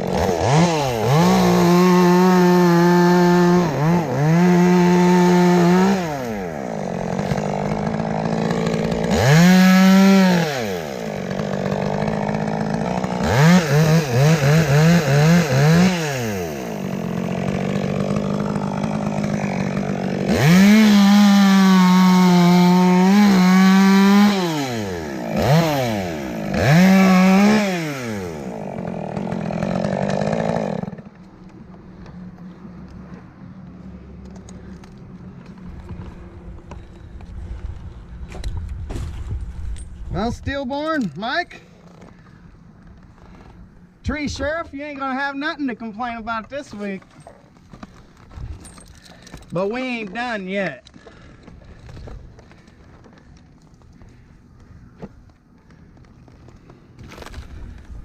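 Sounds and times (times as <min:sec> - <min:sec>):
chainsaw revving and idling: 0:00.0 - 0:33.0, 0:40.2 - 0:58.0.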